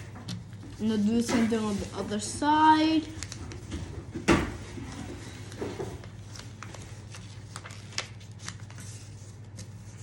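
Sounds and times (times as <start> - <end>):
paper rustling and creasing: 0.0 - 10.0.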